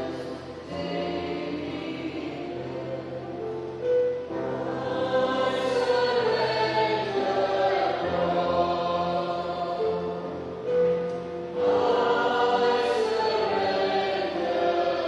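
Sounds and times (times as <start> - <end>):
choir singing long held notes: 0.0 - 15.0.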